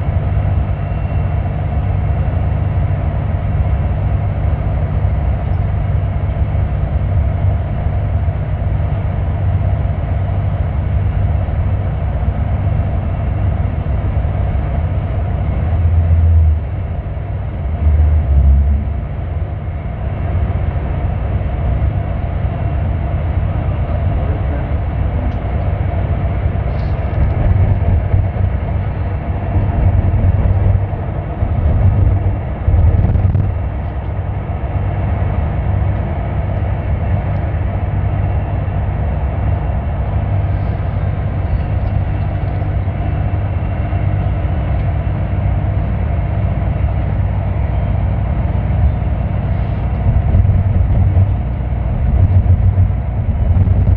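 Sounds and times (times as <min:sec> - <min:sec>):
vehicle rumble from inside cabin: 0:00.0 - 0:53.9.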